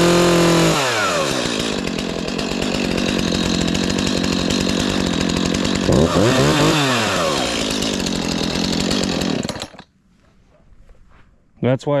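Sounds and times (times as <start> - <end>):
chainsaw revving and idling: 0.0 - 9.9.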